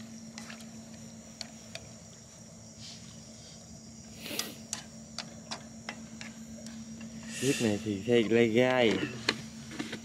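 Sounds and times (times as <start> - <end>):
faint insect-like chirring: 0.0 - 10.0
steady low hum: 0.0 - 10.0.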